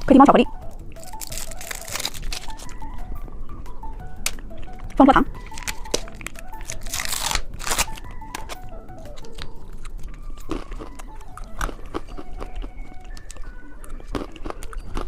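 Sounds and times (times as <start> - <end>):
candy crunching: 0.0 - 3.0, 4.2 - 15.0
soft background music: 0.0 - 15.0.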